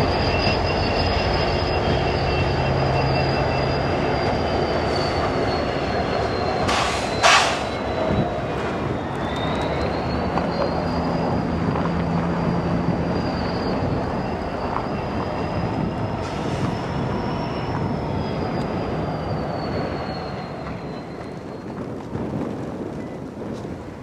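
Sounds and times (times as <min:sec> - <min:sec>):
train wheels squealing: 0:00.0 - 0:22.2
rumble of freight cars: 0:00.0 - 0:24.0.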